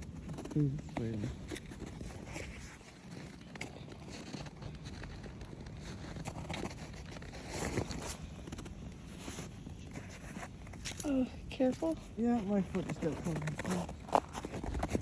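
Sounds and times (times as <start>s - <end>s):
footsteps in snow: 0.0s - 15.0s.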